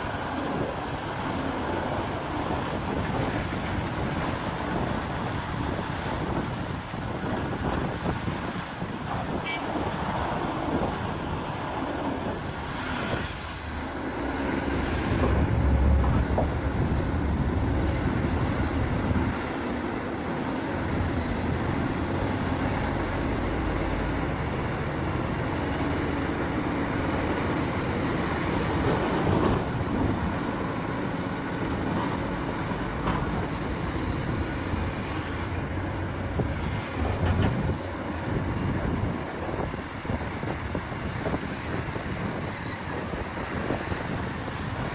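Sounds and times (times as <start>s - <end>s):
heavy diesel engines under load: 0.0s - 44.9s.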